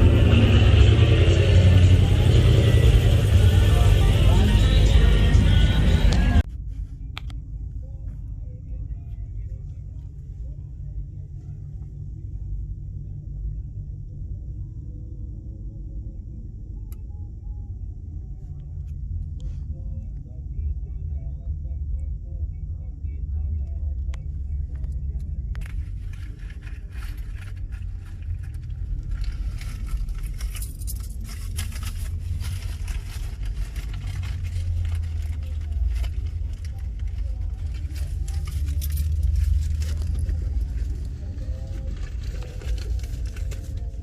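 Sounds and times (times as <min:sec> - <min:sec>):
vehicle engines rumbling: 0:00.0 - 0:44.0.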